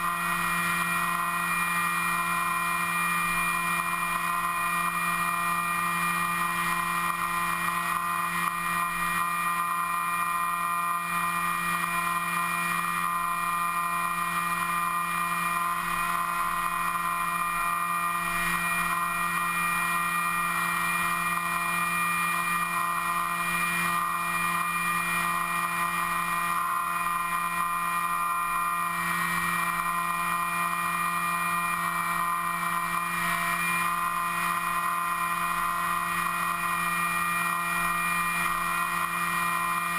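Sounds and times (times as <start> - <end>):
model aircraft motor whine: 0.0 - 39.9.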